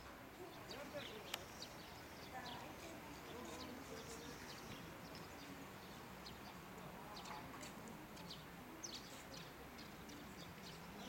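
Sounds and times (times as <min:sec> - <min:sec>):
faint background voices: 0:00.0 - 0:11.0
small birds chirping: 0:00.3 - 0:11.0.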